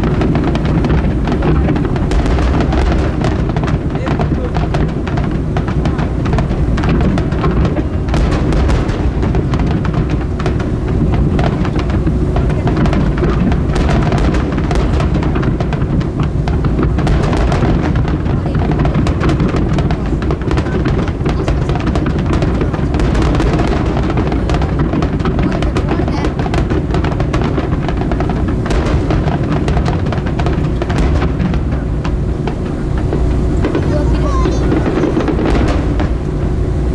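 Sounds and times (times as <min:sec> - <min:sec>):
fireworks booming and crackling: 0:00.0 - 0:36.9.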